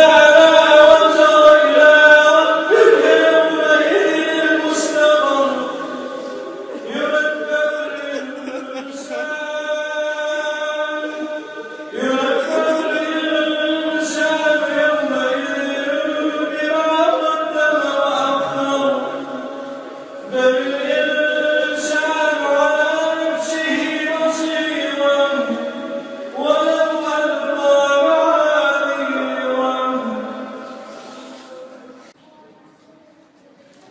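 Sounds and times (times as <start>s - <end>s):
solo voice chanting recitation: 0.0s - 31.0s.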